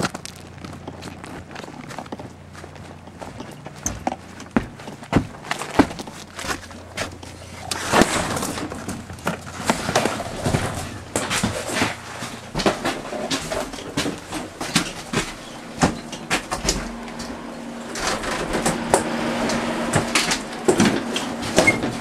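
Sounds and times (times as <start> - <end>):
footsteps on steps: 0.0 - 22.0
knocks and clatter: 0.0 - 22.0.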